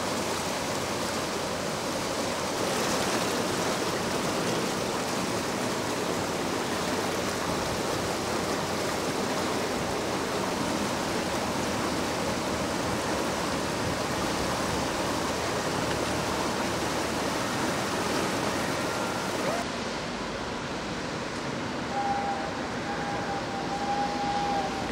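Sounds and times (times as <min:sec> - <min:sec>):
river rushing: 0:00.0 - 0:24.9.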